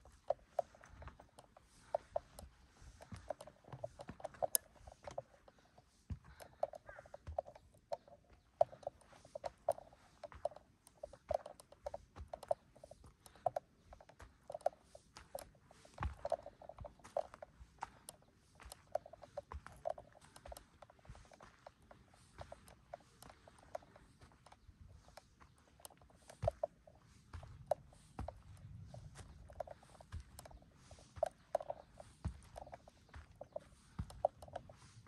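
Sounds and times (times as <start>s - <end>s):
footsteps on mountain trail: 0.0s - 35.0s.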